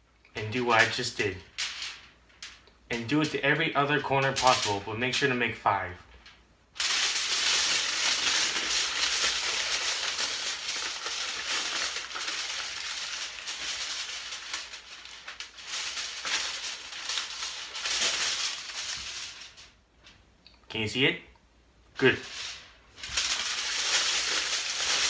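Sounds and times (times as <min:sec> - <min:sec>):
aluminum foil crinkling: 0:00.6 - 0:04.9, 0:06.2 - 0:20.2, 0:22.0 - 0:25.0.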